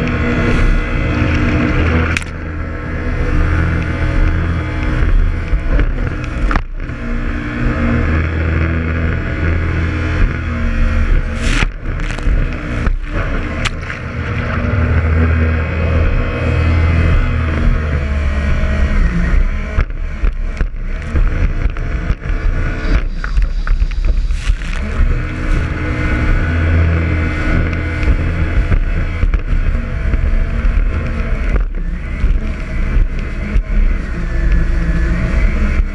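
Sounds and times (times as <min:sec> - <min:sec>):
jet ski engine: 0:00.0 - 0:35.9.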